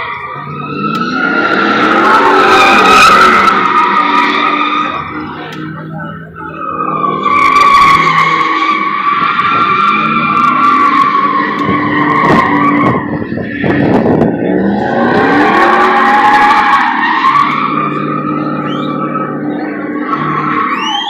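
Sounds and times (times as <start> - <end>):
tyres squealing: 0.0 - 13.7, 14.6 - 21.0
engine revving: 0.0 - 21.0.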